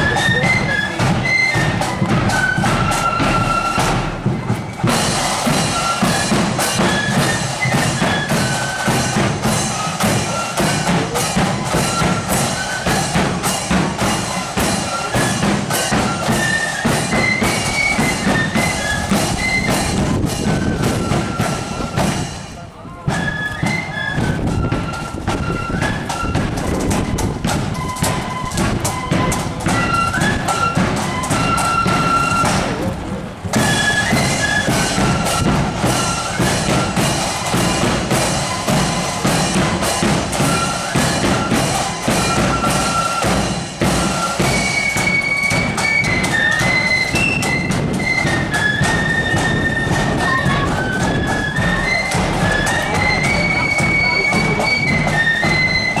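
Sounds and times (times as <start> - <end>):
shrill flutes playing melody: 0.0 - 56.0
snare and bass drums beat: 0.0 - 56.0.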